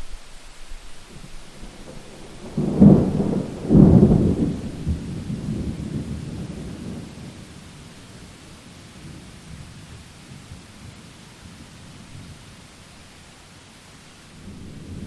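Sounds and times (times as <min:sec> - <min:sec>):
thunder rumbling: 0:00.0 - 0:12.6, 0:14.4 - 0:15.0
rain hiss: 0:00.0 - 0:15.0.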